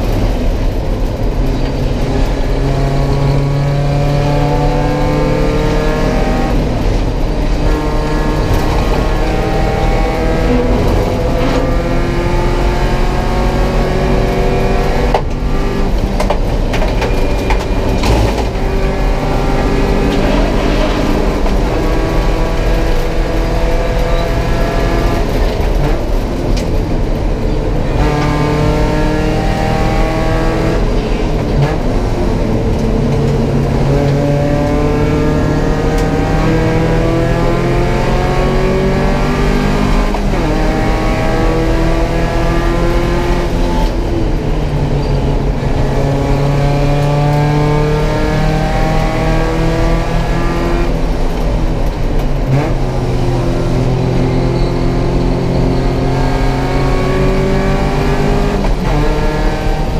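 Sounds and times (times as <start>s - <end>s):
race car engine accelerating: 1.5s - 59.9s.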